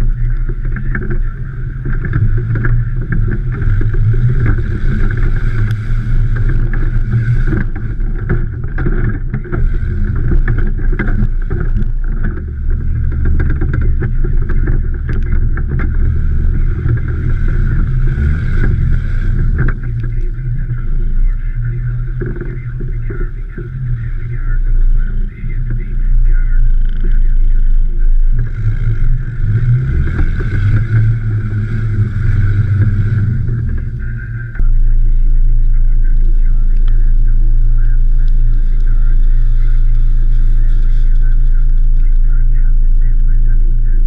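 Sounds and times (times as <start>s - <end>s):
body and suspension rattling: 0.0s - 43.8s
vehicle engine running: 0.0s - 44.0s.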